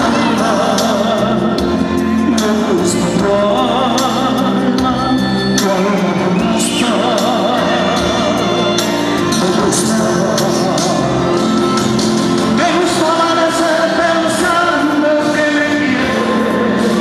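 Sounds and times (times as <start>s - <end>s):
man singing into microphone: 0.0s - 17.0s
pop backing track: 0.0s - 17.0s.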